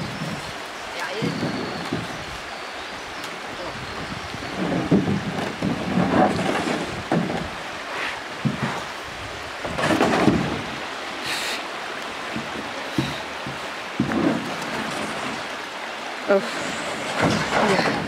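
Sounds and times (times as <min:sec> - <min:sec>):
canoe scraping over rocks: 0:00.0 - 0:18.0
water rushing over rocks: 0:00.0 - 0:18.0.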